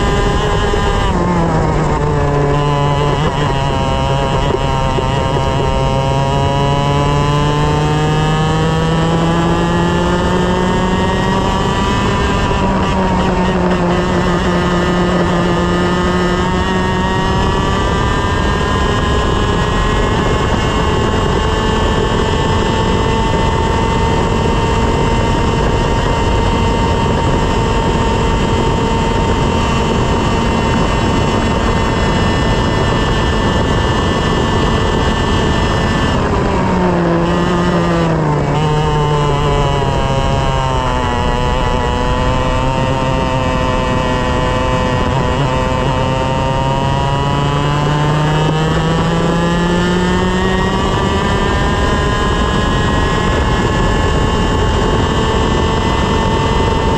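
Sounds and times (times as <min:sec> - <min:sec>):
kart engine at full throttle: 0:00.0 - 0:56.9.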